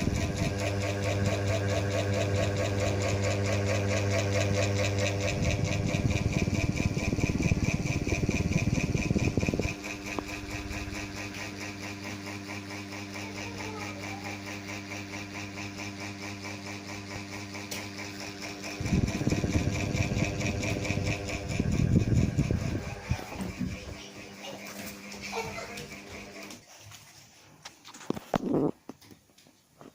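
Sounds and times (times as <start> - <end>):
ceiling fan whirring: 0.0 - 29.9.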